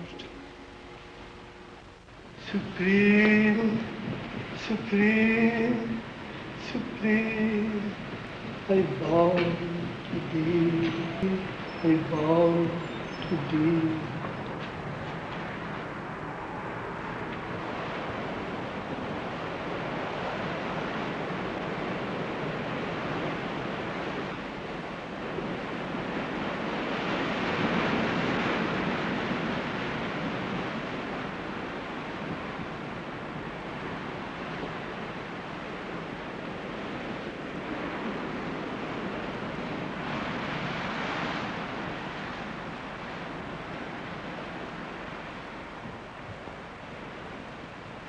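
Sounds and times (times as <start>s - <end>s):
ocean surf washing in: 0.0s - 48.0s.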